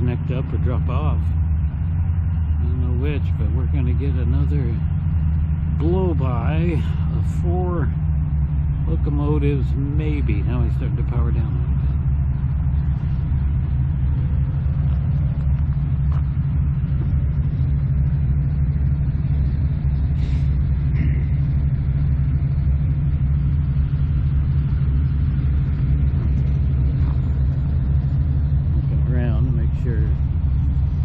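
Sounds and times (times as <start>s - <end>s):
locomotive diesel engines rumbling: 0.0s - 31.0s.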